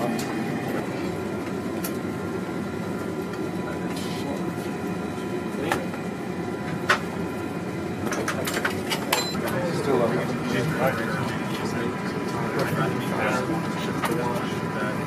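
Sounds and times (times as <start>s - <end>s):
low hum of equipment: 0.0s - 15.0s.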